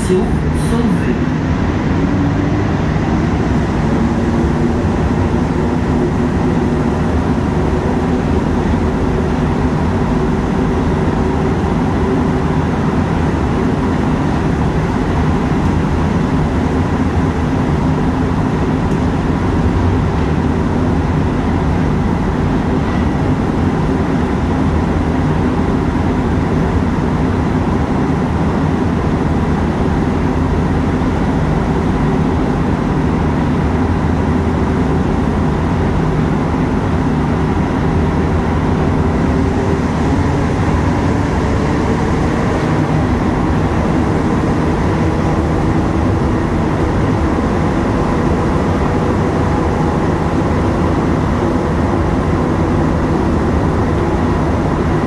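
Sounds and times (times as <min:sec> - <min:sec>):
subway train running noise: 0:00.0 - 0:55.0.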